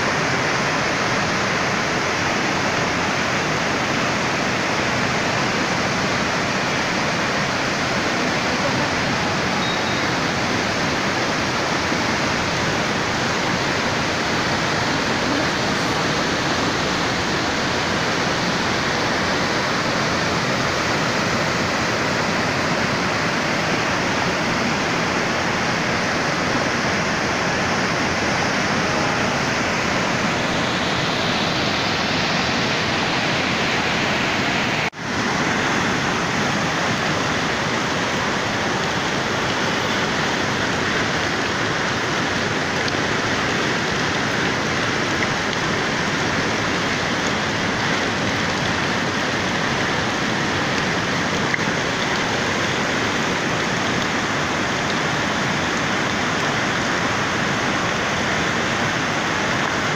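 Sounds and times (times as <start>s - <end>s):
heavy rain: 0.0s - 59.9s
running water: 0.0s - 59.9s.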